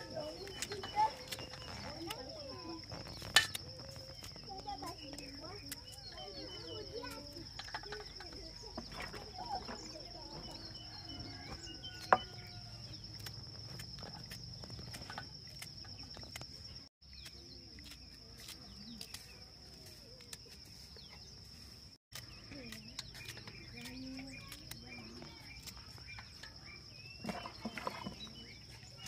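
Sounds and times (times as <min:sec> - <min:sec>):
high insect trill: 0:00.0 - 0:29.0.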